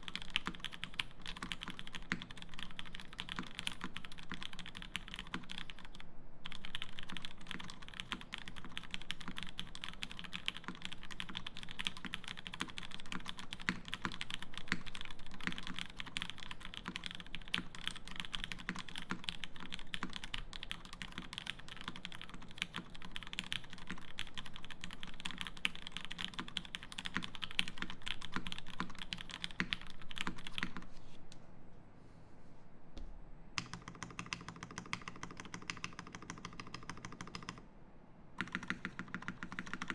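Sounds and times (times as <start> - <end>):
mechanical keyboard typing: 0.0 - 30.9, 33.6 - 37.6, 38.4 - 39.9.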